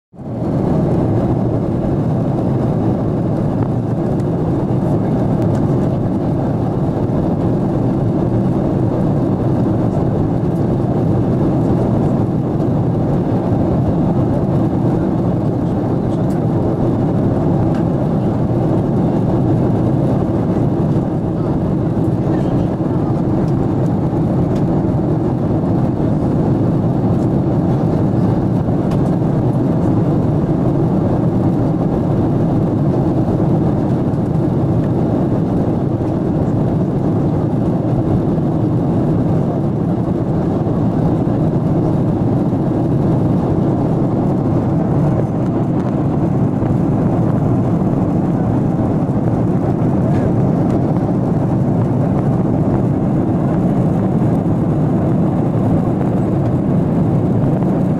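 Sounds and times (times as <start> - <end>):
airliner cabin engine rush: 0.1 - 57.9.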